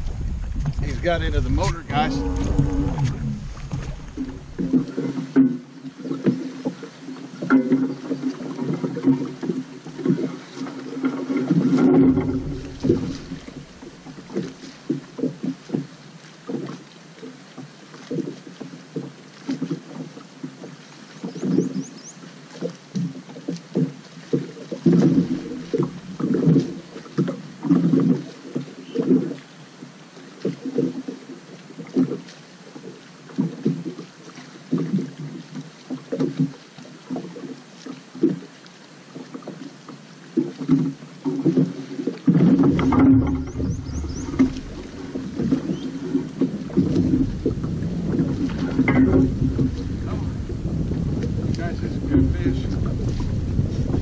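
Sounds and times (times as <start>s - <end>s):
water slapping against boat hull: 0.0s - 54.0s.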